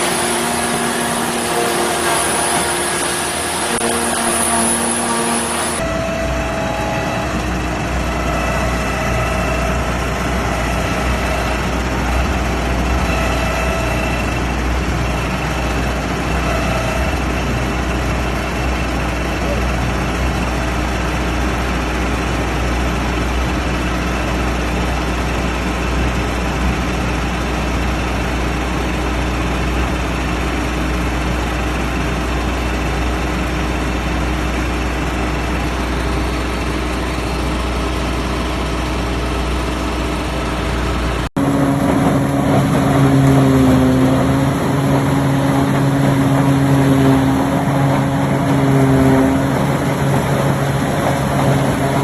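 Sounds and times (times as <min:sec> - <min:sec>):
diesel engine droning: 0:00.0 - 0:52.0
harvester engine humming: 0:00.0 - 0:52.0.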